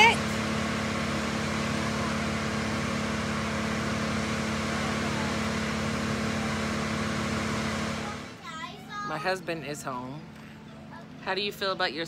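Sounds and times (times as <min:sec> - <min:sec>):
tree-cutting machine engine droning: 0:00.0 - 0:12.0.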